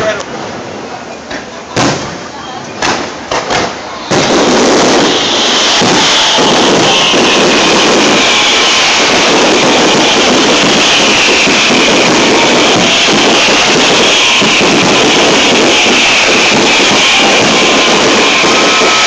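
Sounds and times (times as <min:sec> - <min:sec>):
fireworks bursting and crackling: 0:01.7 - 0:19.0.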